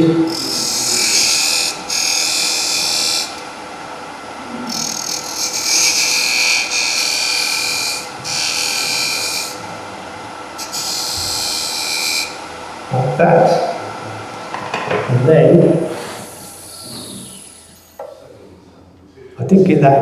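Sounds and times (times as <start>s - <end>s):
chisel hissing cut on wood: 0.0s - 18.5s
lathe hum: 0.0s - 18.9s.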